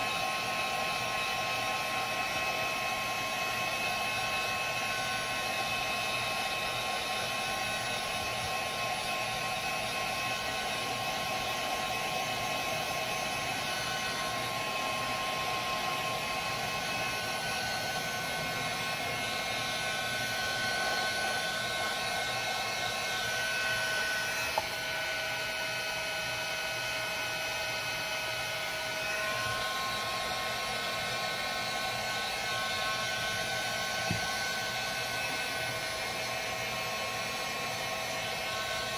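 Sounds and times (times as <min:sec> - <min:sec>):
heat gun blowing air: 0:00.0 - 0:38.9.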